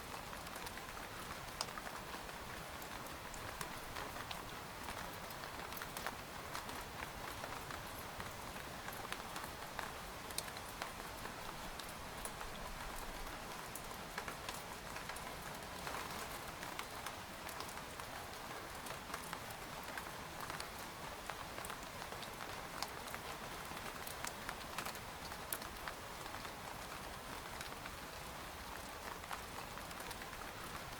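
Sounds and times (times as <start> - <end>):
rain pattering on tent fabric: 0.0 - 30.9.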